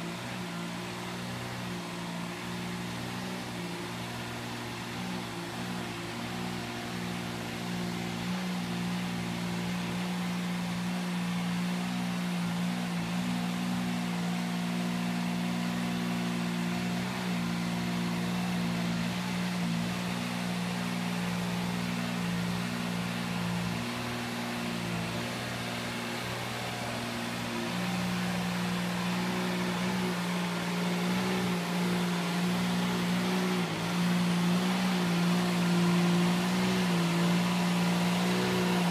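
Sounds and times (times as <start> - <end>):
mini tractor engine running: 0.0 - 38.9.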